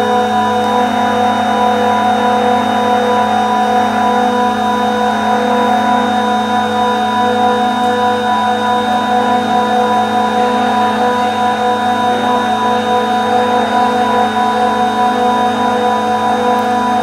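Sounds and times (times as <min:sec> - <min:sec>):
refrigeration compressors droning: 0:00.0 - 0:17.0
thin high whine: 0:00.0 - 0:17.0.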